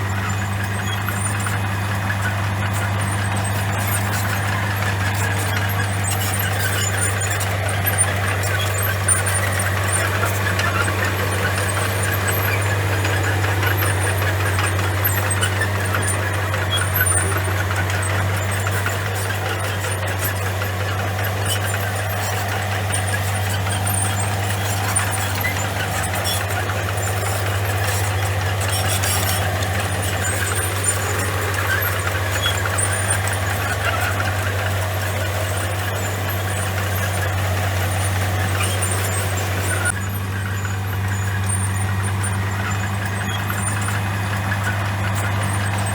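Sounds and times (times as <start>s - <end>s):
bulldozer diesel engine running: 0.0s - 45.9s
steel tracks rattling on gravel: 0.0s - 45.9s.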